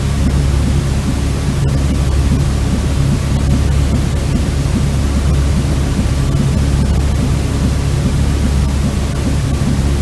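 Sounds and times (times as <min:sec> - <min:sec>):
deep heavy rumble: 0:00.0 - 0:10.0.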